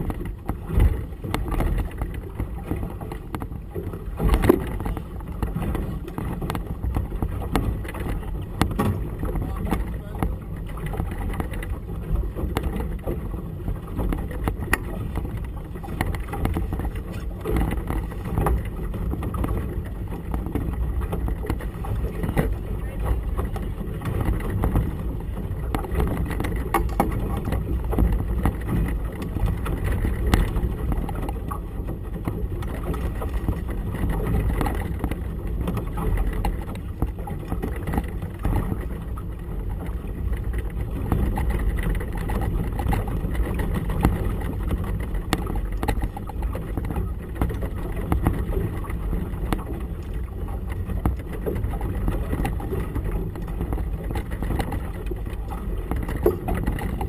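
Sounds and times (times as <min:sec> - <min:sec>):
choppy water: 0:00.0 - 0:57.0
knocks and slaps on boat: 0:00.0 - 0:57.0.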